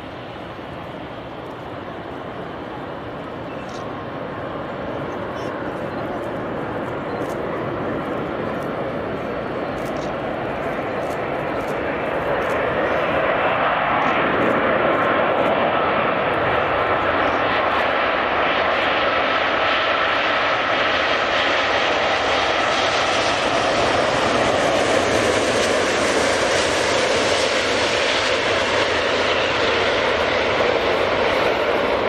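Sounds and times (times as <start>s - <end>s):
jet airliner roar: 0.0s - 32.0s.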